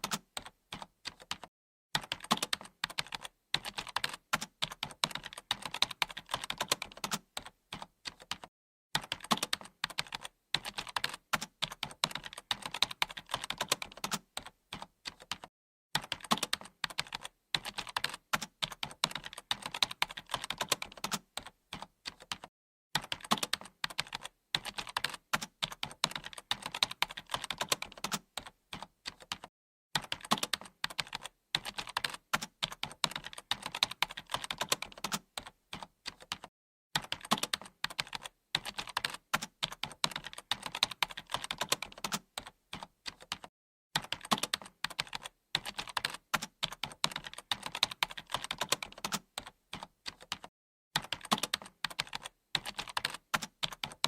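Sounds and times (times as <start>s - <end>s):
typing on computer keyboard: 0.0s - 54.0s.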